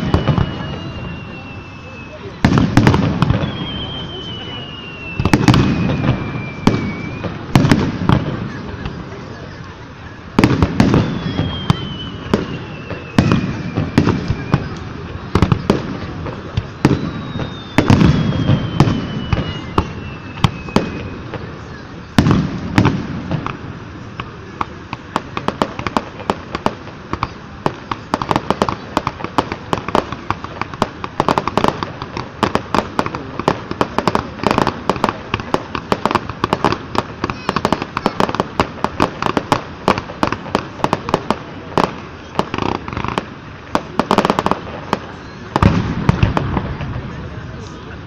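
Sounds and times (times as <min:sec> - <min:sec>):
fireworks crackling pops: 0:00.0 - 0:48.0
heavy fireworks boom: 0:00.0 - 0:48.0.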